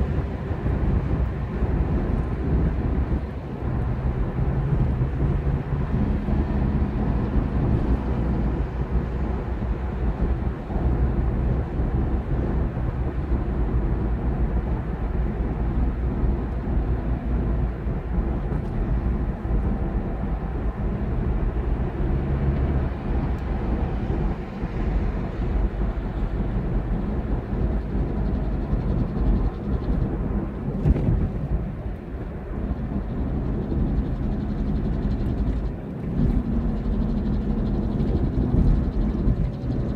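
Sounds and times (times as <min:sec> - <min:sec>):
road and wind noise: 0:00.0 - 0:39.9
truck engine drone: 0:00.0 - 0:39.9.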